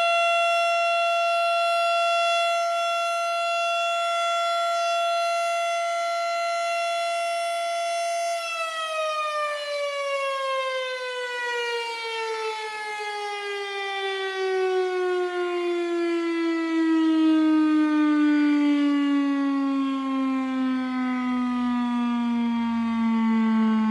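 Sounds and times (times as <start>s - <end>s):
fire siren winding down: 0.0s - 23.9s.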